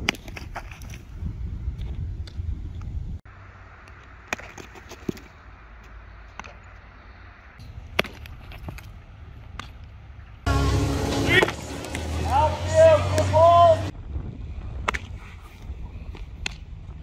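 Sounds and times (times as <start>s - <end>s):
low wind rumble: 0.9s - 4.2s, 5.3s - 17.0s.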